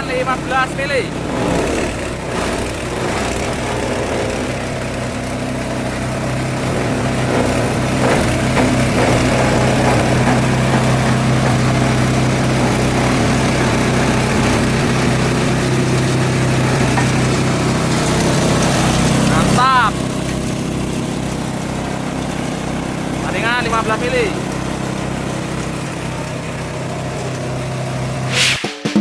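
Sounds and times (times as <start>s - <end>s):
shredder grinding grass: 0.0s - 28.4s.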